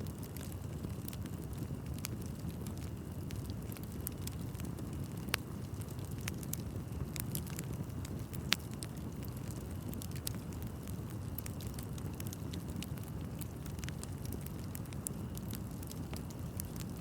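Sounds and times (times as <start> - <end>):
wood crackling and popping: 0.0 - 17.0
bonfire flames rushing: 0.1 - 17.0.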